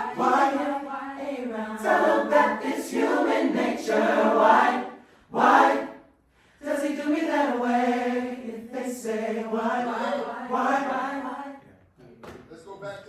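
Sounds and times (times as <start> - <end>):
choir singing a cappella: 0.0 - 11.8.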